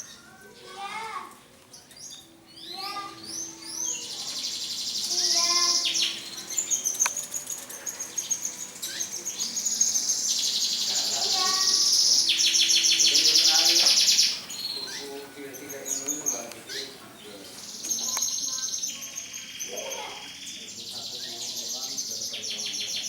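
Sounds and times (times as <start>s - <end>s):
canary trilling and chirping: 1.7s - 23.0s.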